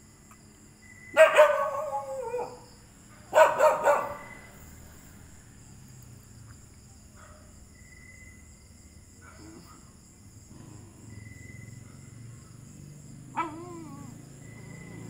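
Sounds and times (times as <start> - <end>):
crickets trilling: 0.0 - 15.0
high insect chirp: 0.0 - 15.0.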